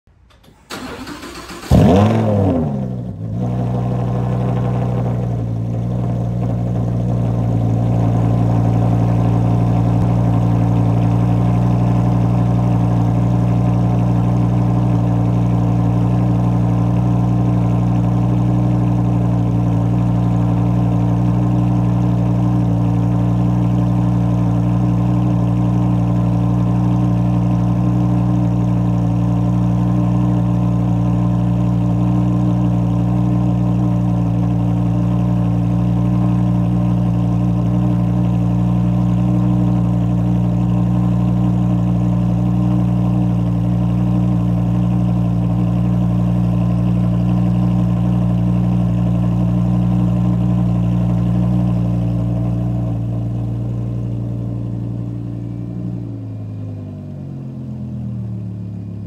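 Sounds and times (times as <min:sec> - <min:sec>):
car engine starting and revving: 0:00.3 - 0:48.3.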